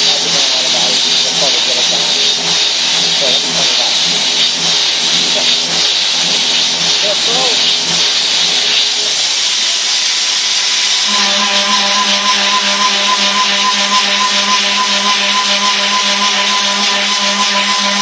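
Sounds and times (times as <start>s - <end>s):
mill cutter cutting steel hiss: 0.0s - 18.0s
steady pitched hum: 0.0s - 18.0s.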